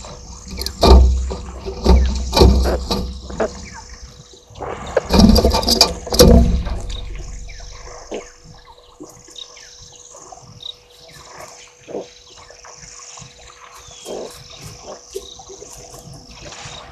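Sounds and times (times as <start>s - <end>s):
birds chirping faintly: 0.0s - 16.9s.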